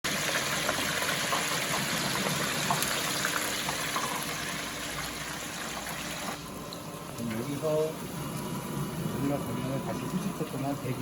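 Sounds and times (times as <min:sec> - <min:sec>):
chicken sizzling in deep fryer: 0:00.0 - 0:11.0.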